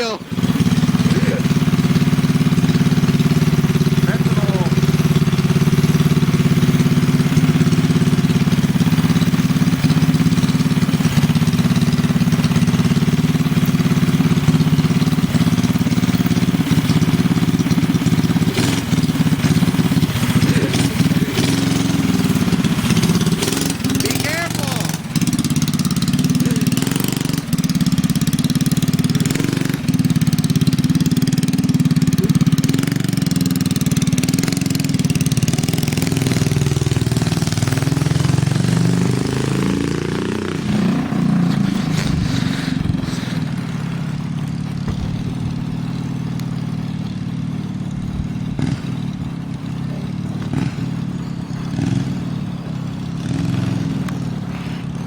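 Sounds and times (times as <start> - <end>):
small engine running and revving: 0.0 - 55.0.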